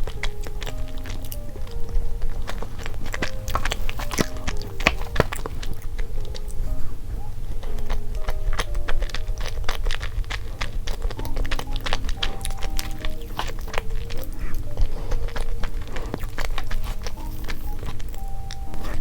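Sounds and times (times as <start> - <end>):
chewing with mouth clicks: 0.0 - 19.0
light background music: 0.0 - 19.0.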